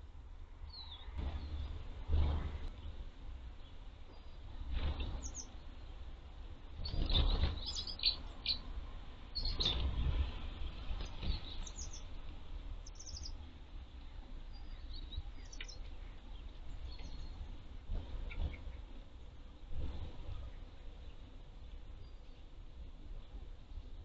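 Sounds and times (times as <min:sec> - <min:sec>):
birds chirping: 0:00.6 - 0:24.0.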